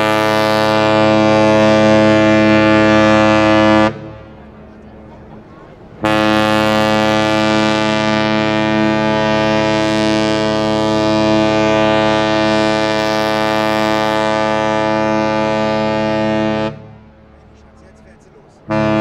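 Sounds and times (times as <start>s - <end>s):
ship's horn blast: 0.0s - 4.4s, 6.0s - 17.3s, 18.6s - 19.0s.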